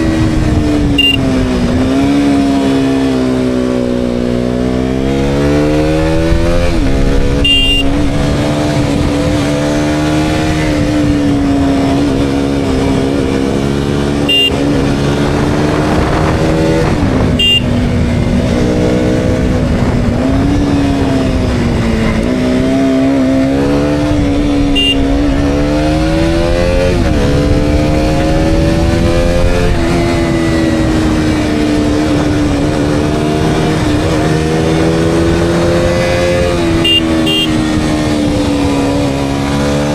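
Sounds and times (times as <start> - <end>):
motorcycle engine revving: 0.0 - 39.9
wind and road rush: 0.0 - 39.9.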